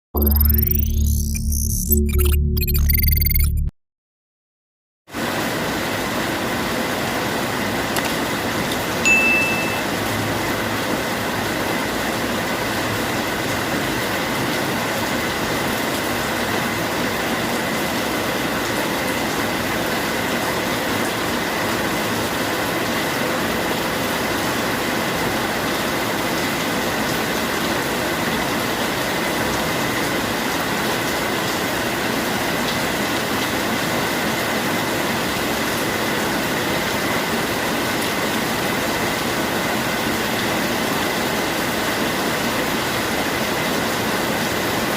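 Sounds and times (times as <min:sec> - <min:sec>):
steady rainfall: 0:05.1 - 0:44.9.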